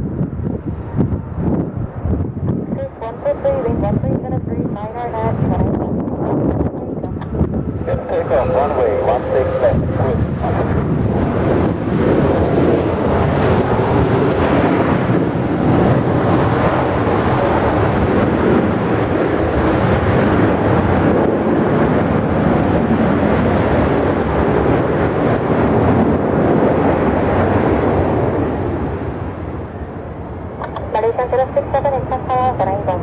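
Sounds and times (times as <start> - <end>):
jet airliner engine noise: 0.0 - 33.0.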